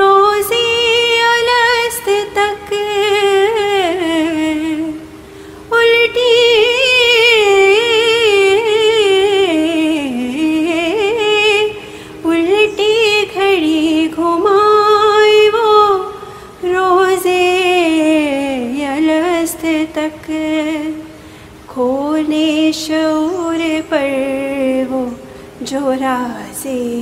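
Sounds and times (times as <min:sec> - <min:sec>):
person singing devotional song: 0:00.0 - 0:27.0.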